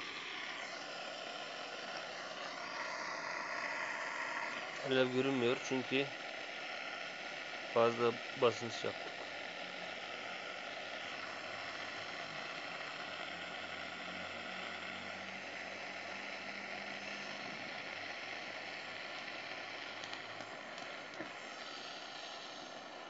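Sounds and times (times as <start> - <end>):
hissing gas jet burning: 0.0 - 23.0.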